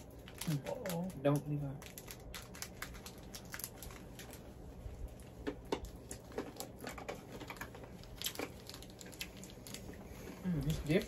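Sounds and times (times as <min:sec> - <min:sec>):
plastic snack wrapper crinkling: 0:00.0 - 0:11.0.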